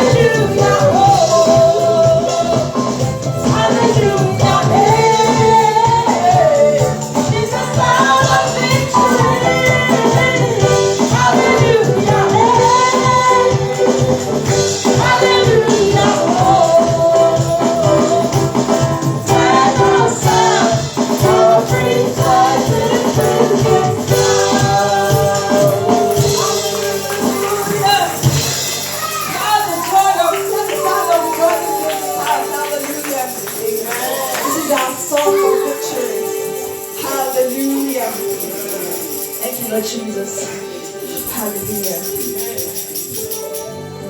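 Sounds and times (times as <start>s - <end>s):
band accompaniment: 0.0s - 44.0s
shaker or tambourine rhythm: 0.0s - 44.0s
voices singing: 0.0s - 44.0s.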